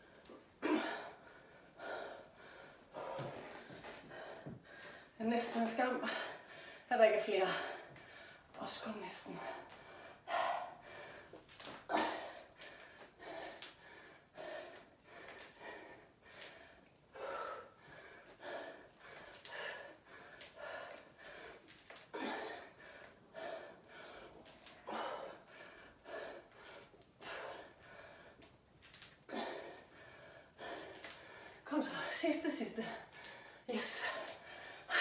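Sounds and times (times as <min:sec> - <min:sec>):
woman breathing hard: 0:00.0 - 0:08.6, 0:09.3 - 0:35.0.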